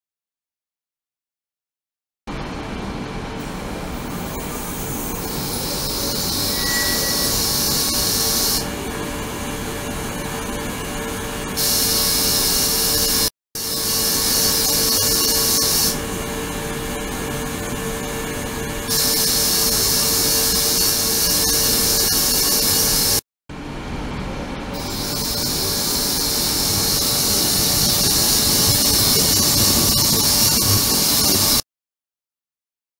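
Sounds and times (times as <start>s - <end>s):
ultrasonic cleaner hum: 2.3s - 22.0s, 22.8s - 31.6s.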